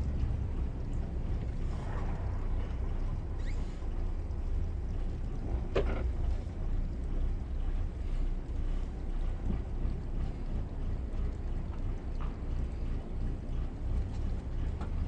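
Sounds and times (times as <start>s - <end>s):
diesel boat engines rumbling: 0.0s - 15.0s.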